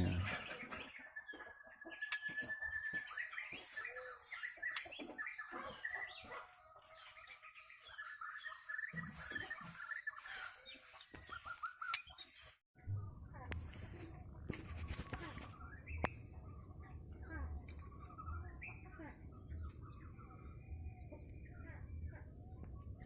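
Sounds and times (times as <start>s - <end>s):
birds chirping and whistling: 0.0s - 23.0s.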